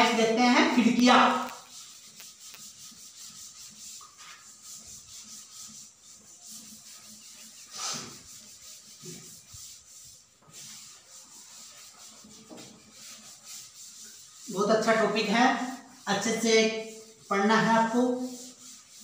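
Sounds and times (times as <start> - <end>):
duster scraping chalkboard: 0.0 - 19.0.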